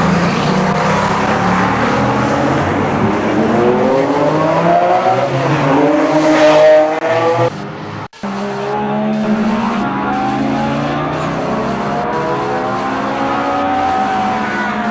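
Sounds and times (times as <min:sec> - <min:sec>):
car engine revving up: 0:00.0 - 0:14.9
steady engine sound: 0:00.0 - 0:14.9.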